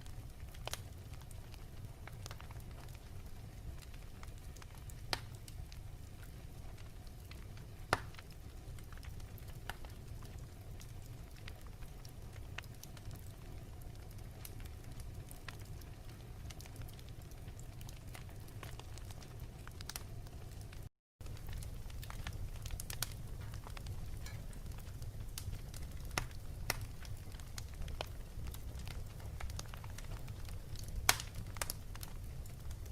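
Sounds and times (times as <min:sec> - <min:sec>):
fireplace fire crackling: 0:00.0 - 0:32.9.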